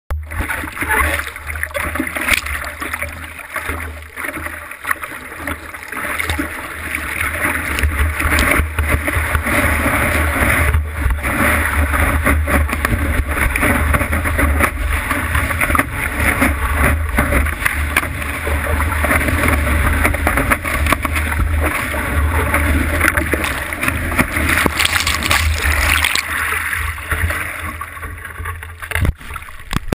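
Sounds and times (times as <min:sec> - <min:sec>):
water rushing and splashing: 0:00.1 - 0:30.0.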